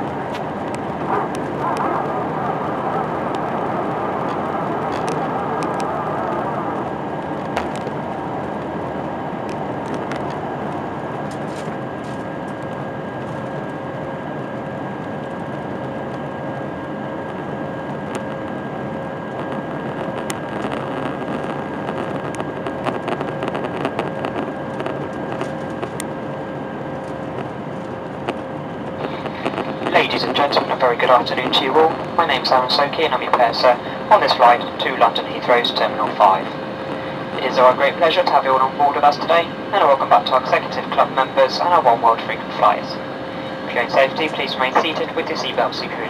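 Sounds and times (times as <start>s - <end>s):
aircraft cabin roar: 0.0s - 46.0s
steady whining tones: 0.0s - 46.0s.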